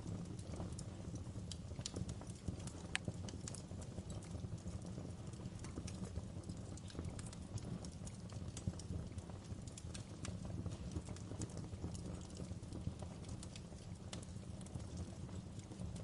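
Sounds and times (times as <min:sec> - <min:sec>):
burning wood crackling: 0:00.0 - 0:16.0
low rumble of flames: 0:00.0 - 0:16.0.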